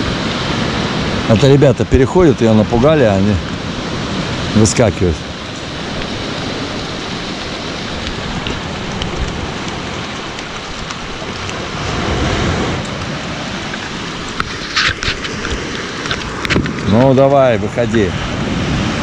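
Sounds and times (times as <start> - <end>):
river water rushing over pebbles: 0.0 - 19.0
surf breaking on shore: 0.0 - 19.0
wind on microphone: 0.0 - 19.0.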